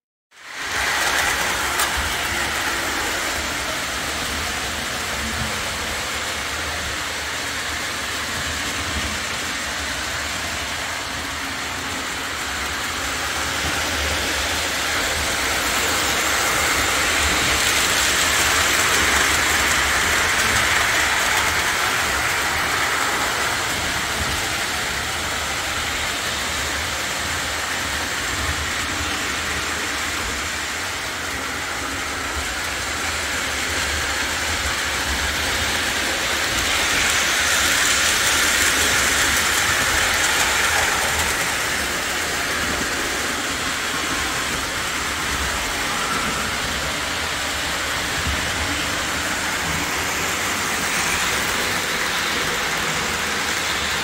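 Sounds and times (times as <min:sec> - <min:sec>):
model train motors whirring: 0:00.4 - 0:54.0.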